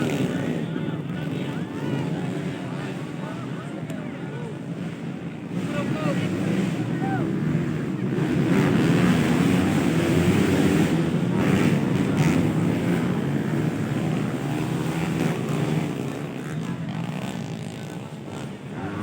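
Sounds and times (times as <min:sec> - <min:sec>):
dirt bike engines revving high: 0:00.0 - 0:19.0.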